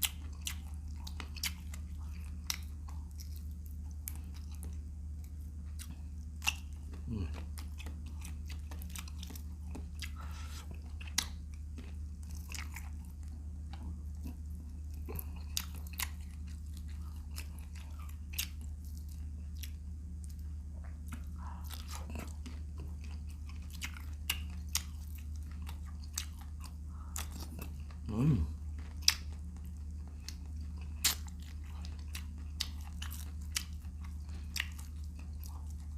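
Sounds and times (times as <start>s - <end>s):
chewing and crunching shrimp: 0.0s - 35.9s
steady low hum: 0.0s - 35.9s.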